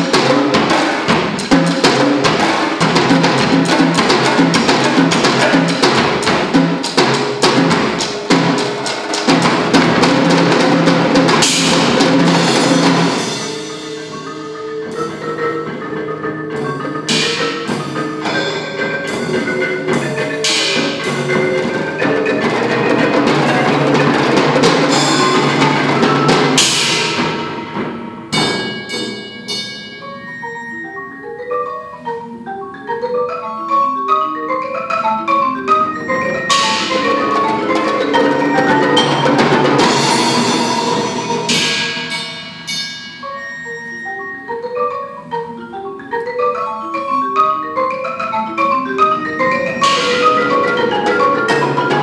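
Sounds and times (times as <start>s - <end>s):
marimba notes: 0.0s - 52.0s
percussion ensemble playing: 0.0s - 52.0s.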